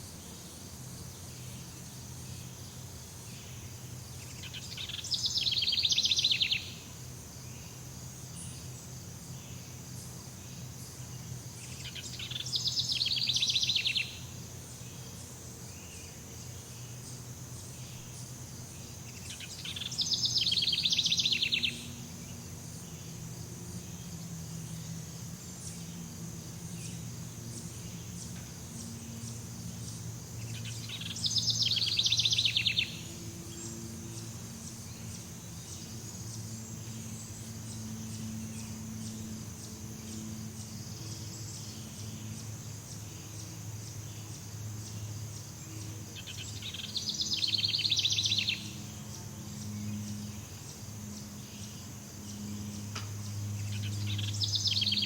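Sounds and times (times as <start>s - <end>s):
high insect buzz: 0.0s - 55.0s.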